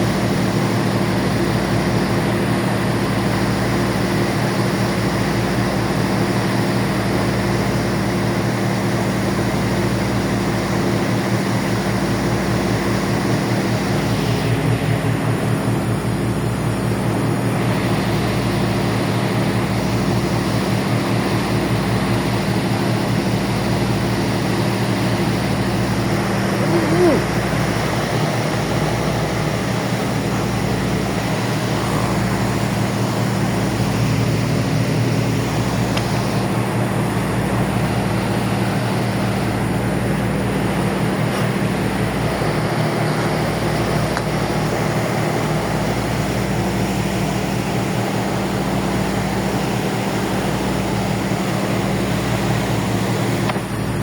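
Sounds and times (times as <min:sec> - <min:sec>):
ferry engines droning: 0:00.0 - 0:54.0.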